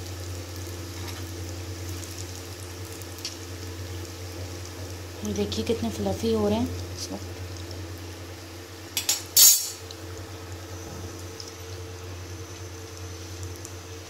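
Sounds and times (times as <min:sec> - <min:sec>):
oil bubbling while deep-frying: 0:00.0 - 0:14.0
steady low hum: 0:00.0 - 0:14.0.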